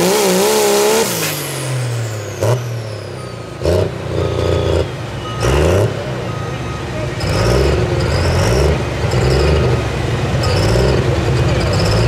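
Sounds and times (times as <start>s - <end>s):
diesel truck engine at full throttle: 0.0s - 12.0s.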